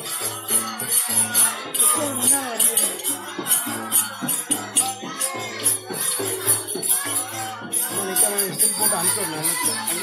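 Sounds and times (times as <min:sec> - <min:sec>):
group singing devotional song: 0:00.0 - 0:10.0
small hand cymbals: 0:00.0 - 0:10.0.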